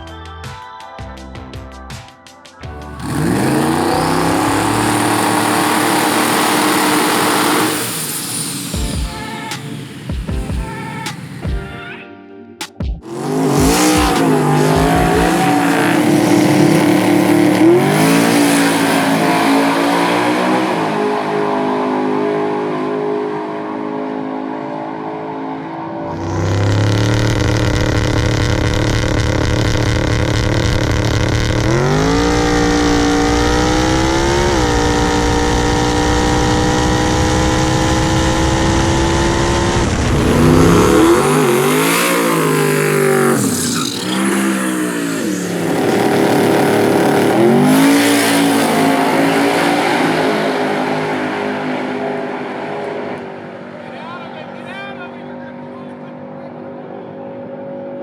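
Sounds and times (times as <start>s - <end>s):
engine revving on a dyno: 2.9s - 10.1s, 13.0s - 53.7s.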